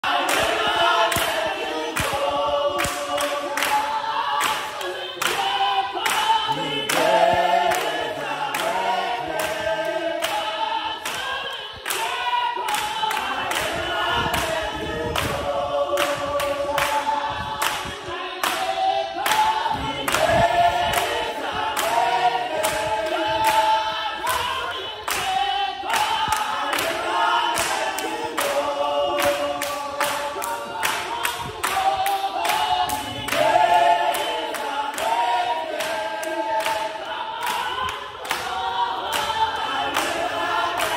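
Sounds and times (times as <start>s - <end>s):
congregation singing: 0.0s - 40.9s
hand claps on the beat: 0.0s - 40.9s.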